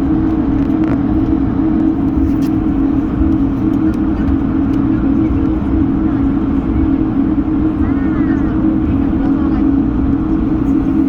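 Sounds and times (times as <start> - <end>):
aircraft cabin low drone: 0.0 - 11.0
steady hum: 0.0 - 11.0.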